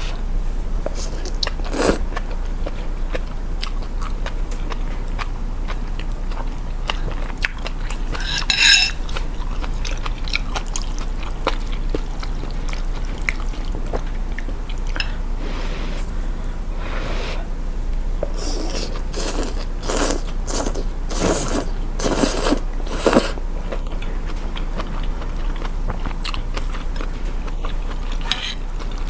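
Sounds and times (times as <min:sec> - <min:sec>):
steady low hum: 0:00.0 - 0:29.0
person chewing: 0:00.9 - 0:15.2, 0:18.4 - 0:29.0.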